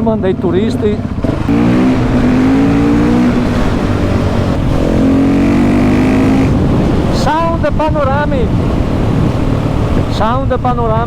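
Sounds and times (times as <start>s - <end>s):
motorcycle engine pulling: 0.0s - 11.0s.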